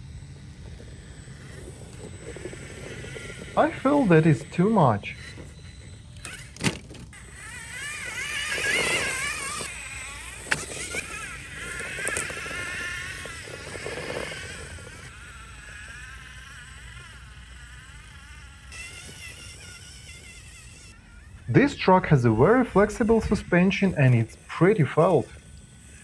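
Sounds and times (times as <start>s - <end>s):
electric motor and gears whining: 0.0s - 26.0s.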